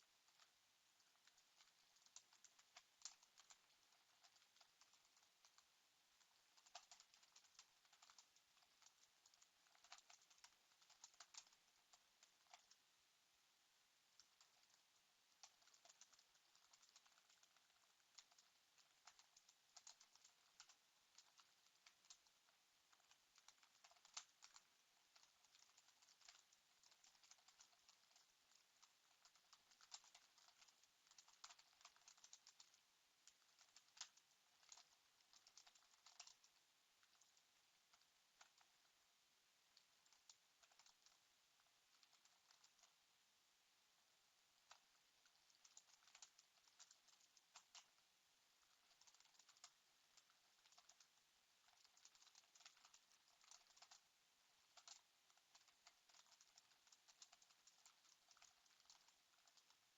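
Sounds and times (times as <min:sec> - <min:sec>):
computer keyboard typing: 0:00.3 - 0:12.8, 0:14.2 - 0:38.8, 0:39.8 - 0:41.3, 0:41.9 - 0:43.0, 0:44.6 - 0:48.0, 0:48.6 - 0:59.9.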